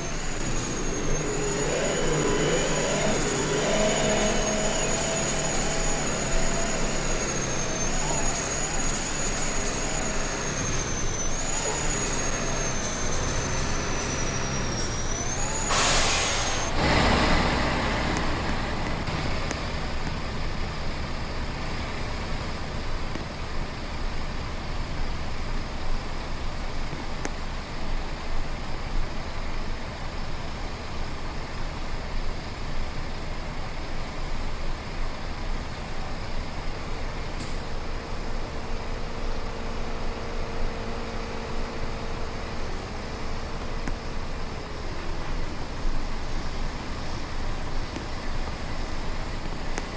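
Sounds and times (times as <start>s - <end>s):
vehicle road and engine rumble: 0.0s - 25.7s, 32.2s - 49.9s.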